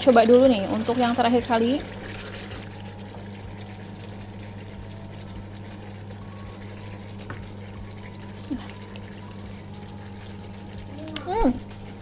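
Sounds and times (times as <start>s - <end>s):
sauce simmering in a frying pan: 0.0s - 12.0s
steady low hum: 0.0s - 12.0s.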